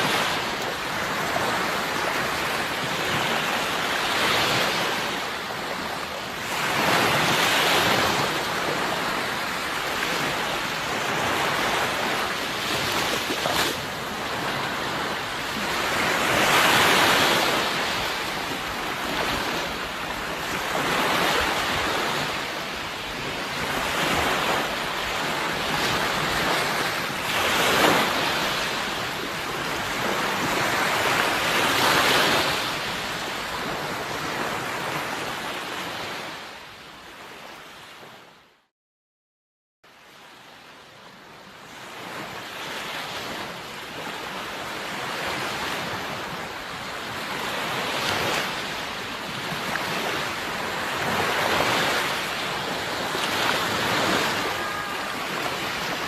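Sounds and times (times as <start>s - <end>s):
sea waves washing on shore: 0.0s - 38.2s, 40.1s - 56.0s.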